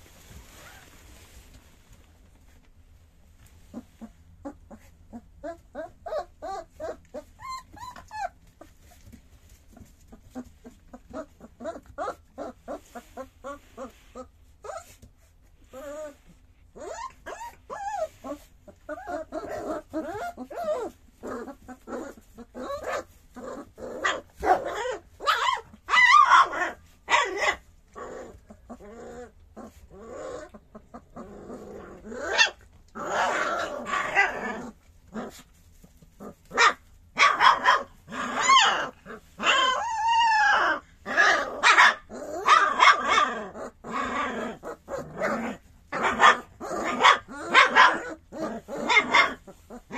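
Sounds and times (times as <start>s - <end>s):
puppy whimpering and yelping: 3.6s - 49.9s.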